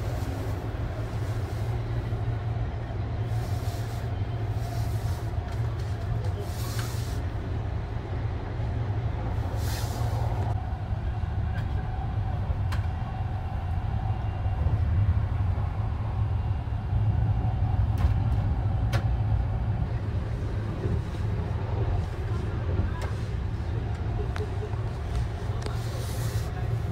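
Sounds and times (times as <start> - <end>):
train interior rumble: 0.0 - 26.9.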